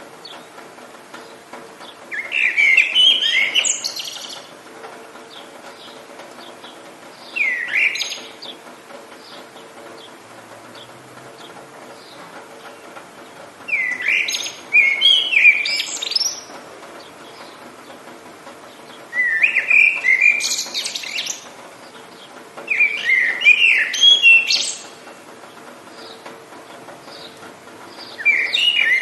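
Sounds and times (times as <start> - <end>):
rain hissing: 0.0 - 29.0
songbird singing: 0.0 - 29.0.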